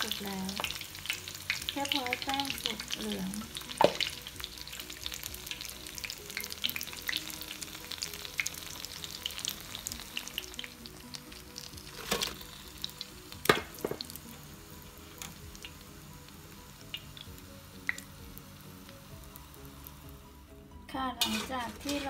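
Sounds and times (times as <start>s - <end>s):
food deep-frying in oil: 0.0s - 20.4s.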